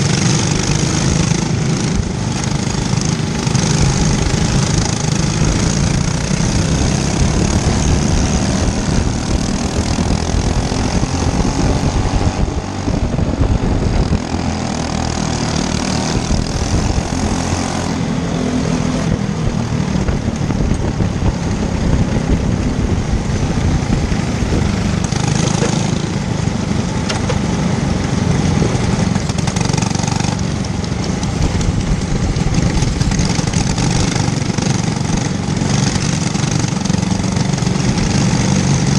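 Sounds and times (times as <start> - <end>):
go-kart engine running loud: 0.0 - 38.9.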